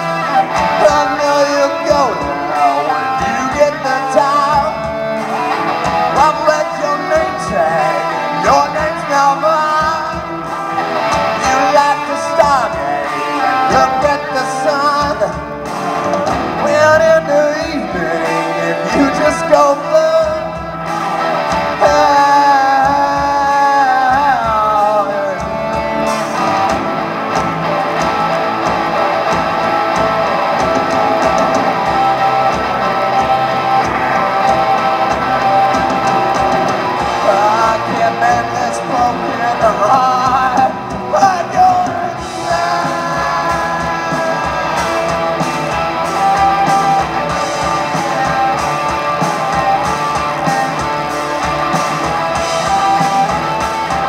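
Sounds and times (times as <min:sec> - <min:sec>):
acoustic guitar strumming: 0:00.0 - 0:54.0
drum kit: 0:00.0 - 0:54.0
electric guitar: 0:00.0 - 0:54.0
live rock band playing: 0:00.0 - 0:54.0.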